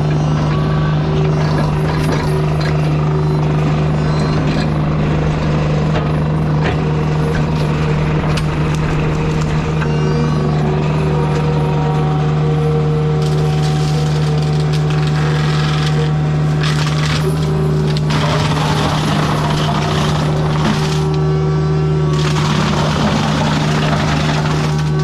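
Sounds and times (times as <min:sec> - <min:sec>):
diesel engine running: 0:00.0 - 0:25.0
mulcher grinding wood: 0:00.0 - 0:25.0.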